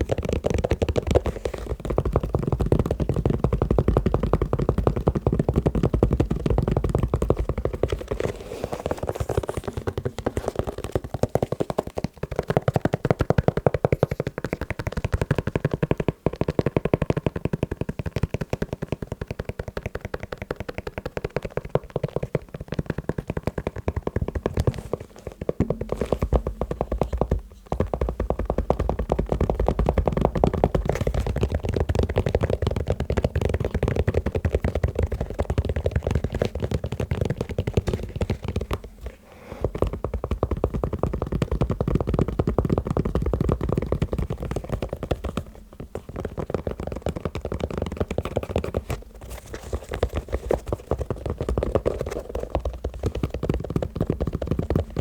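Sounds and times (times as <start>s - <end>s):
fast tapping on shoes: 0.0s - 55.0s.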